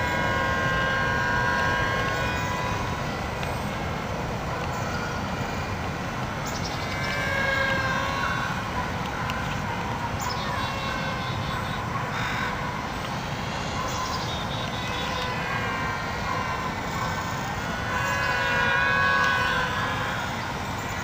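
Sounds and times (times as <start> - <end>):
model airplane motors whining: 0.0 - 5.7, 6.4 - 21.0.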